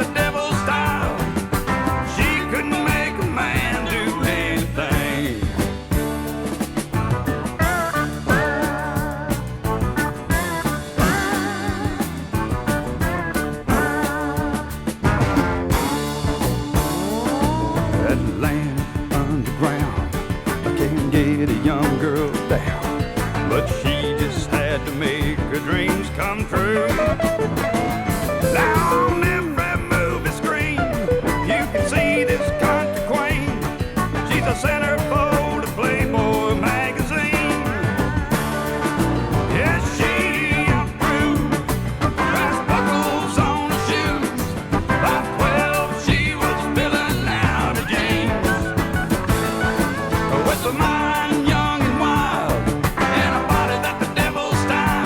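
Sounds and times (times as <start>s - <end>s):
bass: 0.0s - 55.0s
country band music: 0.0s - 55.0s
lead guitar with bent notes: 0.0s - 55.0s
steady drum beat: 0.0s - 55.0s.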